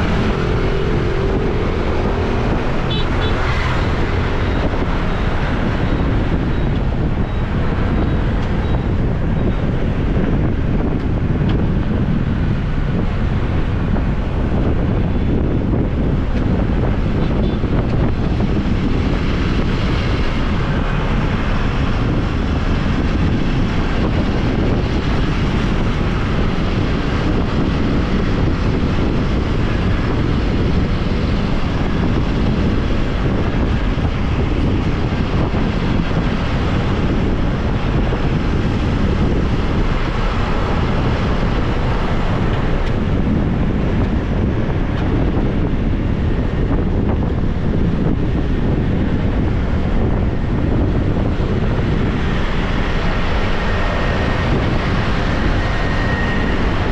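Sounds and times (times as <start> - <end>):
motorbike running: 0.0 - 56.9
wind rushing over microphone: 0.0 - 56.9.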